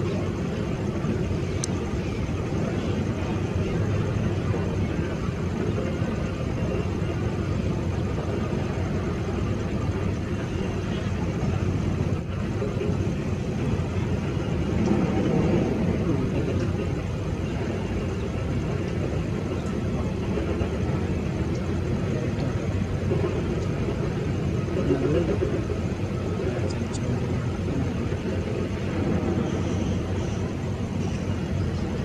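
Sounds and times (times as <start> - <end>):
distant jet engines rumbling: 0.0 - 32.0.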